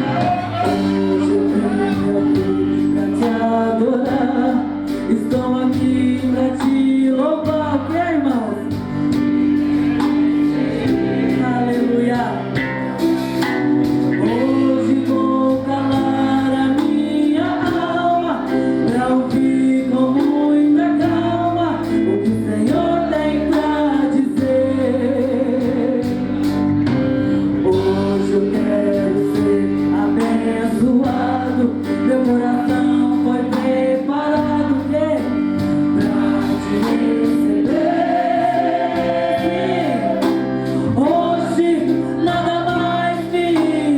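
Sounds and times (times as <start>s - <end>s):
instrumental accompaniment: 0.0s - 43.9s
person singing gospel song: 0.0s - 43.9s.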